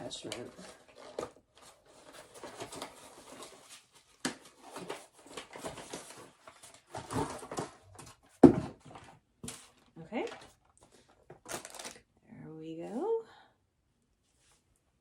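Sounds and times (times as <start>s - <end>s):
cardboard and plastic rustling: 0.0s - 12.1s.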